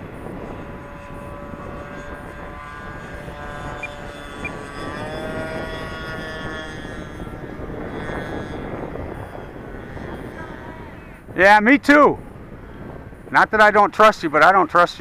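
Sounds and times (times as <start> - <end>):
model airplane motor whining: 0.0 - 15.0
wind rumble on microphone: 0.0 - 15.0.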